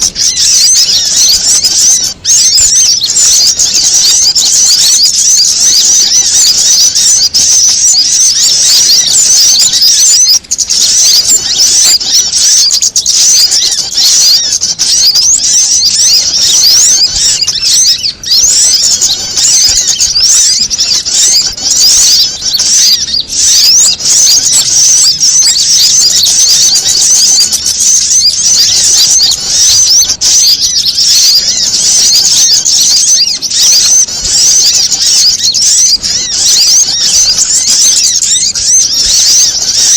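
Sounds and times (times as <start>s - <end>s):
songbirds chirping and squeaking: 0.0s - 39.9s.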